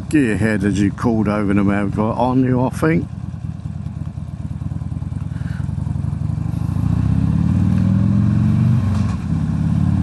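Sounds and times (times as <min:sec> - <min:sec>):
motorcycle engine revving: 0:00.9 - 0:10.0.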